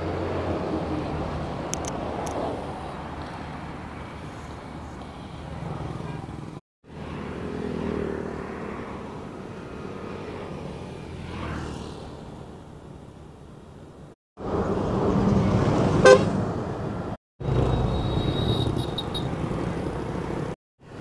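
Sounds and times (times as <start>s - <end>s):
vehicle passing by: 0.0s - 13.4s, 14.4s - 20.6s
traffic rumble: 0.0s - 21.0s.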